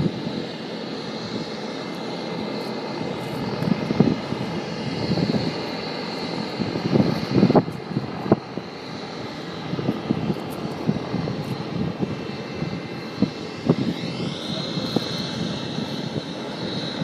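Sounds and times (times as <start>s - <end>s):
helicopter rotor noise: 0.0s - 17.0s
helicopter turbine whine: 0.0s - 17.0s.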